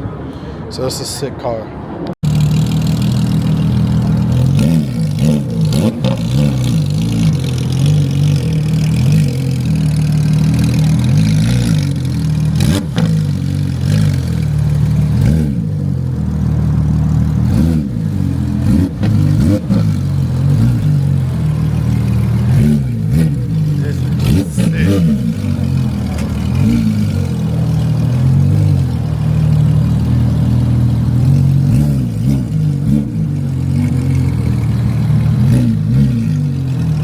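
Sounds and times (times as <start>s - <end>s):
car engines idling and revving: 0.0s - 37.0s.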